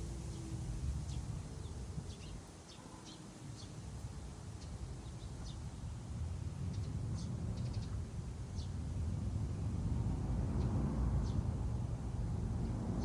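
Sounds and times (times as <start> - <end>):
wind through trees: 0.0 - 13.0.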